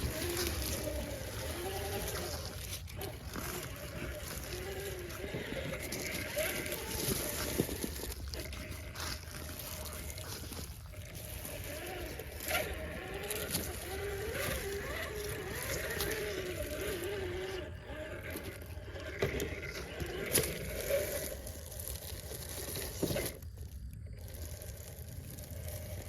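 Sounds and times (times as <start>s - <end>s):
toy truck motor and gears whining: 0.0s - 26.0s.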